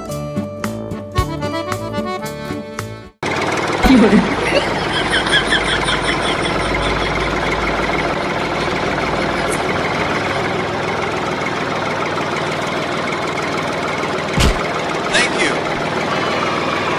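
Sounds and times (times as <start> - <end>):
tractor engine running: 0.1 - 16.9.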